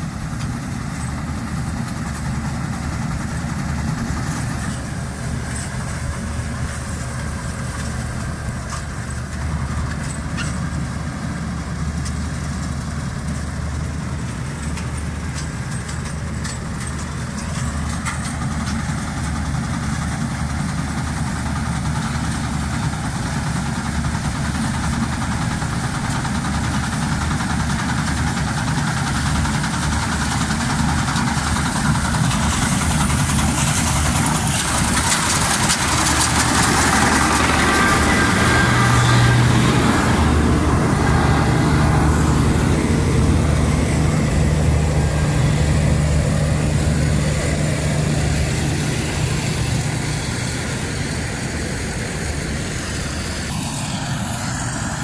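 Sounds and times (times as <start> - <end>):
combine harvester engine hum: 0.0 - 55.0
machinery rushing noise: 0.0 - 55.0.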